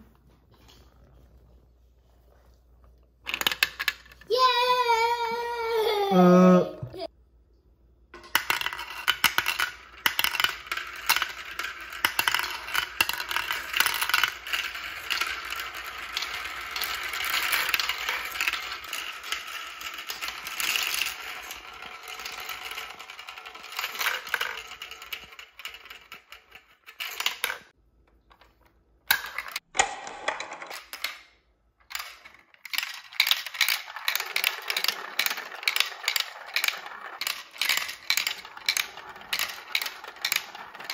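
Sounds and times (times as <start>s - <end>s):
plastic marbles rolling and clattering: 3.2s - 4.8s, 8.2s - 40.9s.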